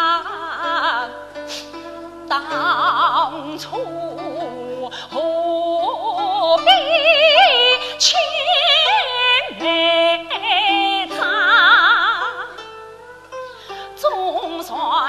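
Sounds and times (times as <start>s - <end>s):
woman singing opera: 0.0s - 12.8s, 13.8s - 15.0s.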